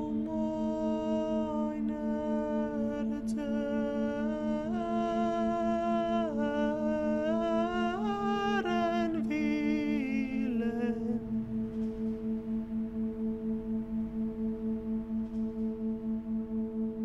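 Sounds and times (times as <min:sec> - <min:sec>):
wordless humming voice: 0:00.0 - 0:14.0
pulsing drone: 0:00.0 - 0:17.0.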